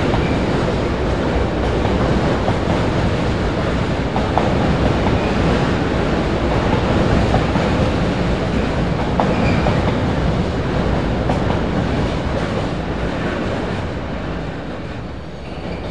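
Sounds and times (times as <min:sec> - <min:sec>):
freight wagons rumbling on rails: 0:00.0 - 0:15.9.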